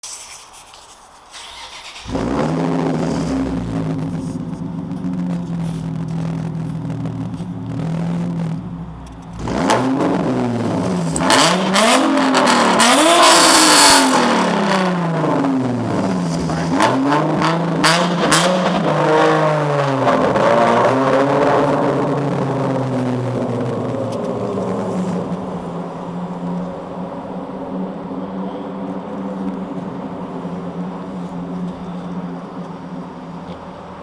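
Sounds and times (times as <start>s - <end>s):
car engine idling: 1.4s - 34.0s
car engine revving: 1.4s - 34.0s.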